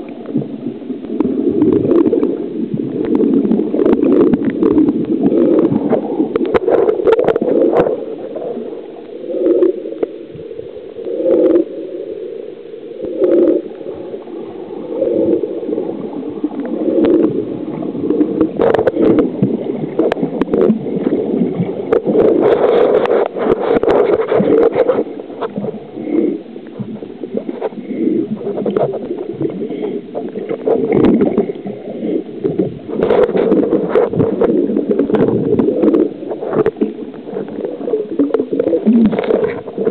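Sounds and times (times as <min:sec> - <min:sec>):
muffled underwater rushing gurgle: 0:00.0 - 0:39.9.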